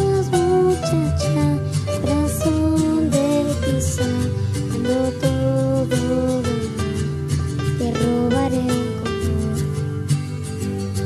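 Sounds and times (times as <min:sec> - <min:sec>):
girl singing slow song: 0:00.0 - 0:07.1, 0:07.7 - 0:10.1
strummed acoustic guitar: 0:00.0 - 0:11.0.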